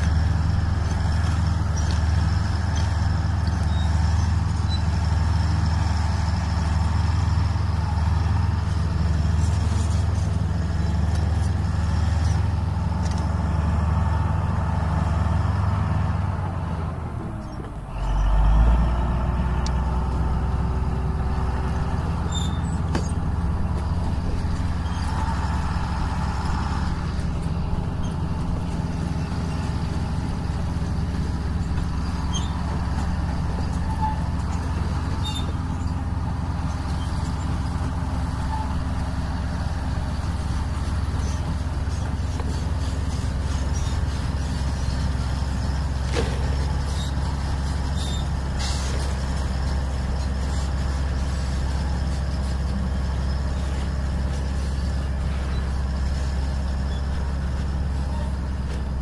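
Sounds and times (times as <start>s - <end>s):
bulldozer diesel engine rumble: 0.0s - 59.0s.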